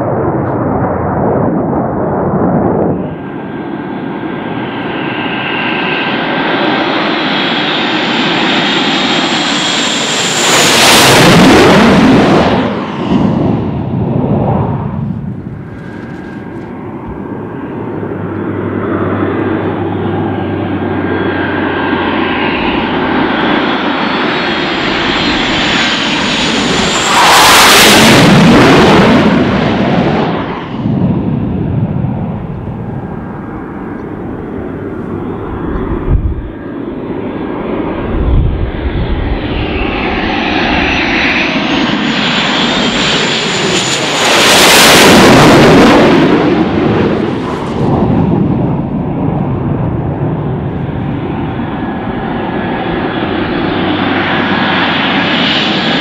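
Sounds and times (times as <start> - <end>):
high turbine whine: 0.0 - 56.0
jet rumble: 0.0 - 56.0
jets passing low: 0.0 - 56.0.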